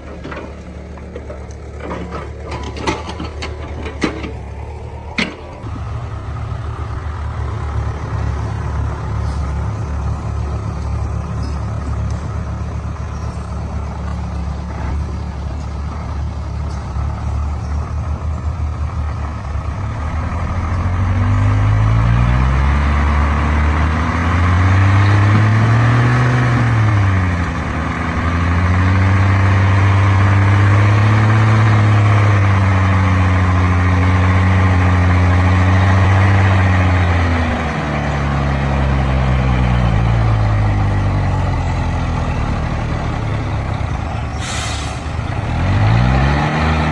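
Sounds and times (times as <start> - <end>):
heavy diesel engine revving: 0.0 - 46.9.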